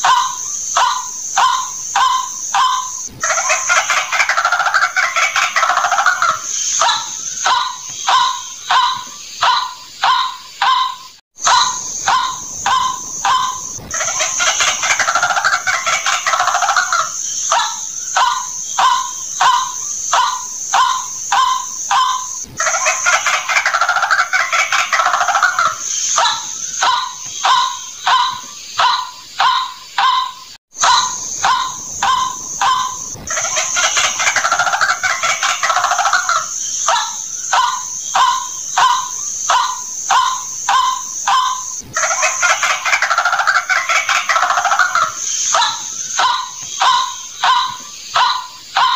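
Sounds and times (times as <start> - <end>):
bird chattering croaks: 0.0 - 48.9
rapid repeated bird notes: 0.0 - 48.9
steady high hiss: 0.0 - 48.9.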